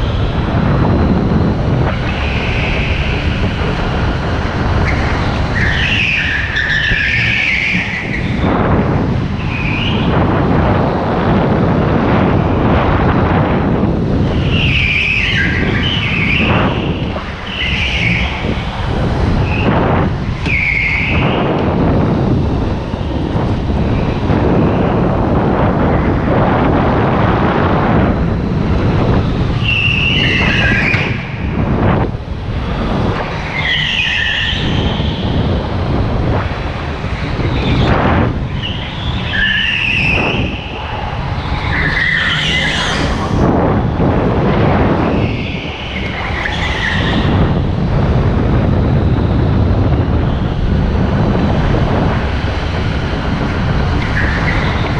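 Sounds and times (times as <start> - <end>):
go-kart engine running: 0.0 - 54.9
go-kart tyres squealing: 0.0 - 54.9.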